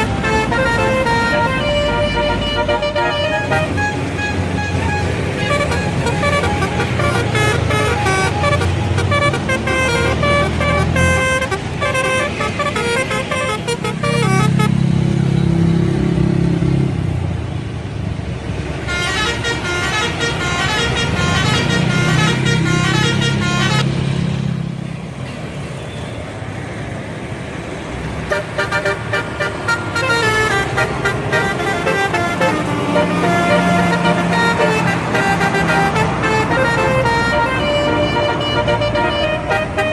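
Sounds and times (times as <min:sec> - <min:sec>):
bus musical horns: 0:00.0 - 0:15.5, 0:18.8 - 0:24.2, 0:28.2 - 0:39.9
bus engine low drone: 0:00.0 - 0:39.9.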